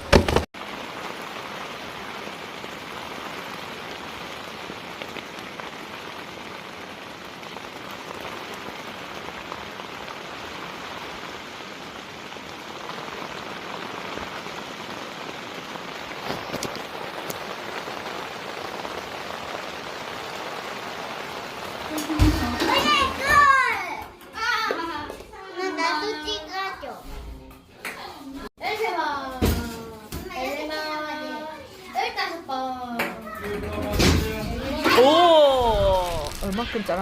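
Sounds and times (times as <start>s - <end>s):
steady rain falling: 0.0s - 26.6s, 28.4s - 29.4s, 30.2s - 37.0s.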